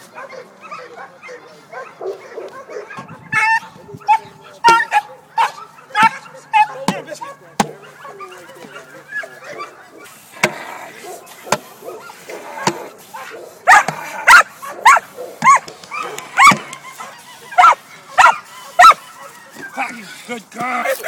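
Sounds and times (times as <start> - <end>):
dog barking loudly: 0.2 - 19.4.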